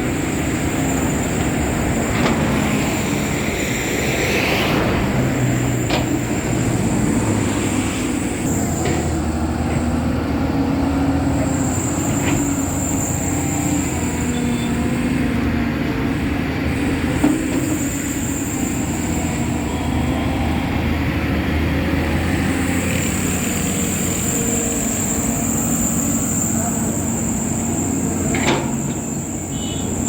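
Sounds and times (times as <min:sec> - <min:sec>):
vehicle rumble: 0:00.0 - 0:30.0.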